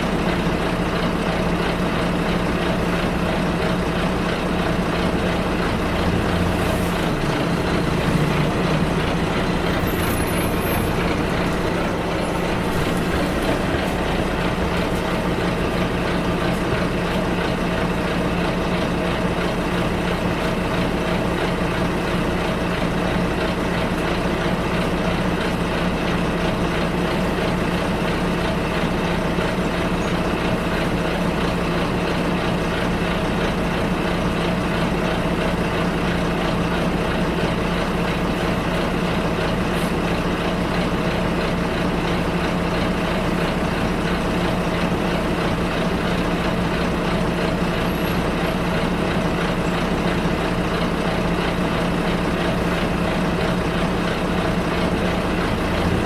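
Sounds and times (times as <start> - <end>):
bus engine running: 0.0 - 56.0
rumbling road noise: 0.0 - 56.0.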